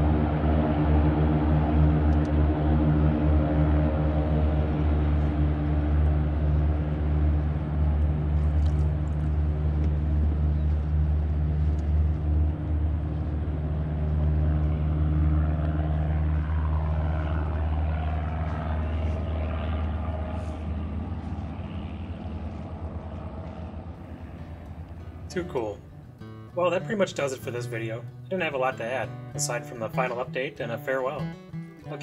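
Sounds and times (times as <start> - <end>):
propeller engine running: 0.0 - 32.0.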